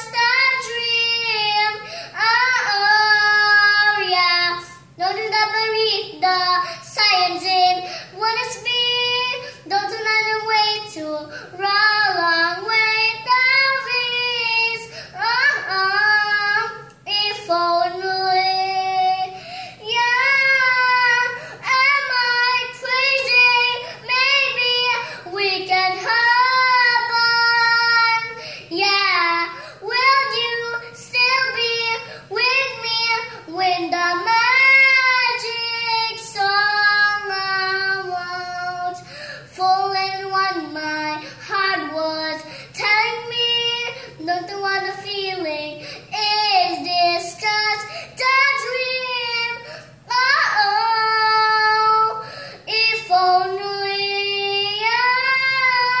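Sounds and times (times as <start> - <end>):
girl singing slow song: 0.0 - 56.0.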